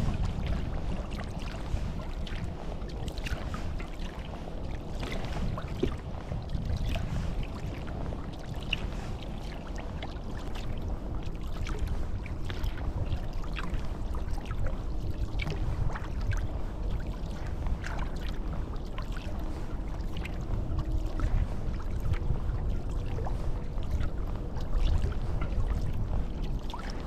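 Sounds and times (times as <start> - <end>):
paddle dipping into water: 0.0 - 27.0
steady low rumble: 0.0 - 27.0
water drips and small splashes: 0.0 - 27.0.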